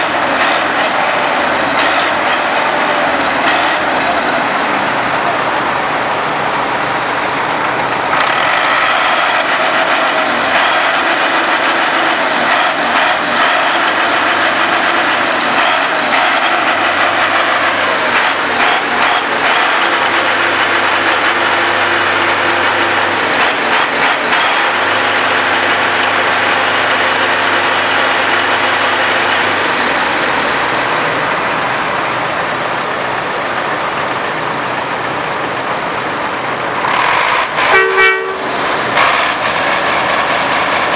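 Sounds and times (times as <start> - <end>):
heavy machinery engines running: 0.0 - 40.9
mechanical clatter and whine: 0.0 - 40.9.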